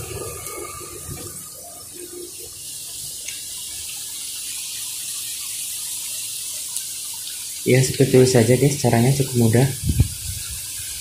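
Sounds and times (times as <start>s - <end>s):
deep-frying oil sizzling: 0.0s - 11.0s.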